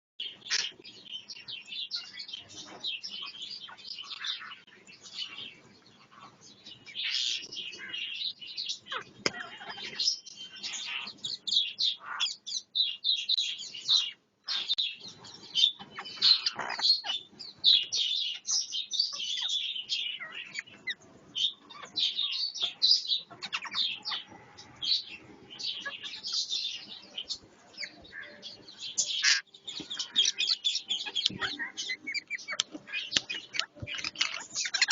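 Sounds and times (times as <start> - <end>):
parrots squawking and chirping: 0.2 - 34.9.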